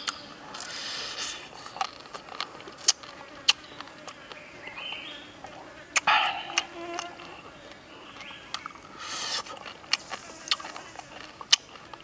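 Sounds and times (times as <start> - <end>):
crackly chewing of crisp meat: 0.0 - 12.0
faint insect buzzing: 0.1 - 12.0.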